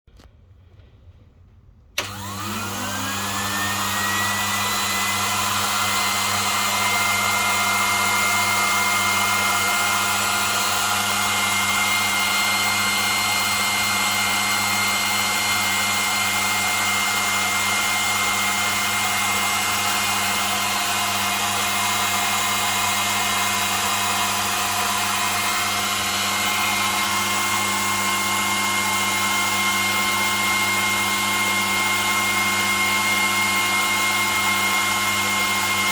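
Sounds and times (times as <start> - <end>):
sewing machine motor whining: 2.0 - 35.9.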